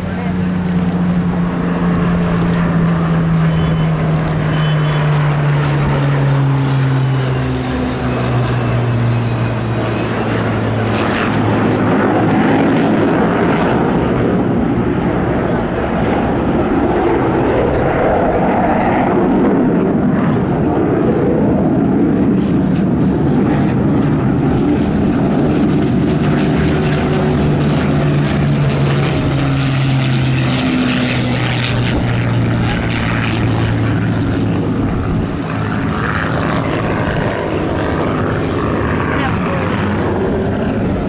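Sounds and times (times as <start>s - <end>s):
propeller plane engine flying past: 0.0s - 41.0s.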